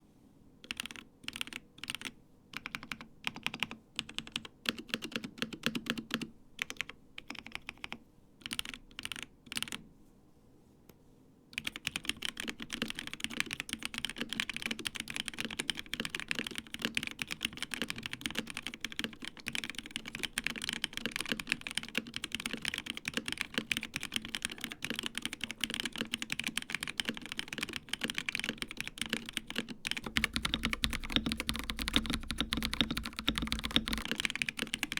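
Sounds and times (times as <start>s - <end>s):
mechanical keyboard typing: 0.6s - 9.8s, 11.6s - 34.9s.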